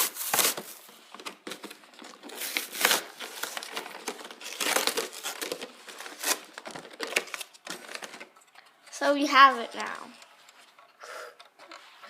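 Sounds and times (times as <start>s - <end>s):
packaging crinkling and rustling: 0.0s - 10.9s.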